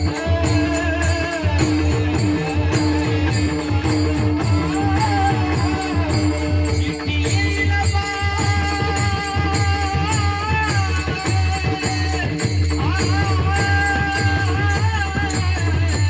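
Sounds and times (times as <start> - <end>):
hand percussion with jingles: 0.0 - 16.0.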